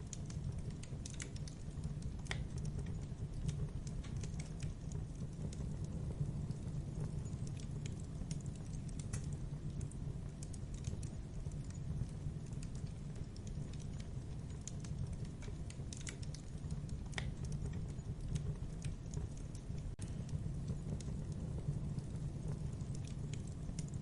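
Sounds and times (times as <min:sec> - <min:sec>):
burning wood crackling and popping: 0:00.0 - 0:24.0
rumble of flames: 0:00.0 - 0:24.0.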